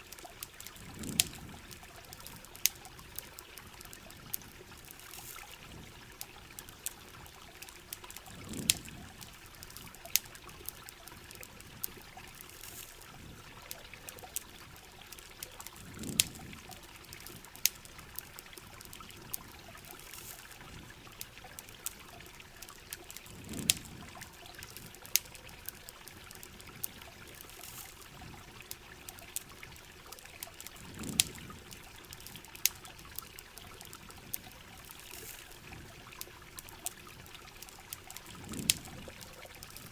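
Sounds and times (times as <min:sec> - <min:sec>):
campfire crackling and popping: 0:00.0 - 0:39.9
running water: 0:00.0 - 0:39.9
steady rain: 0:00.0 - 0:39.9.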